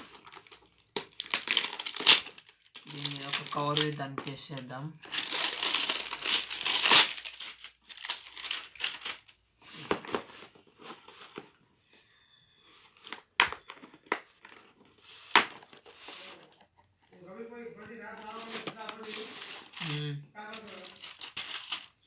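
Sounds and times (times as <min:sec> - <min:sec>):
plastic packaging crinkling: 0:00.0 - 0:09.4, 0:12.8 - 0:16.6, 0:17.2 - 0:22.0.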